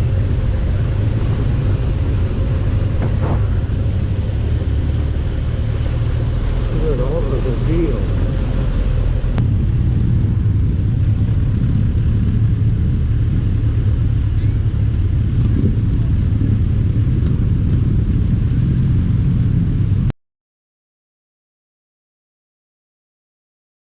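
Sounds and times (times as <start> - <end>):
loud low rumble: 0.0 - 20.1.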